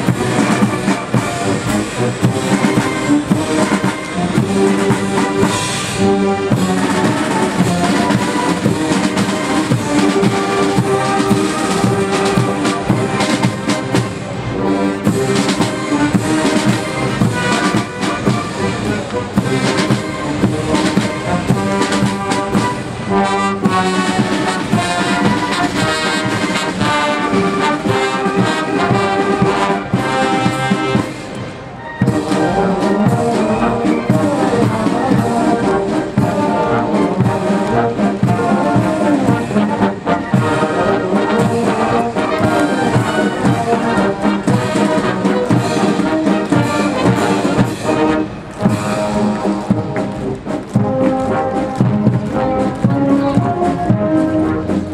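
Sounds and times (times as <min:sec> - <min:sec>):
brass band playing a march: 0:00.0 - 0:54.9.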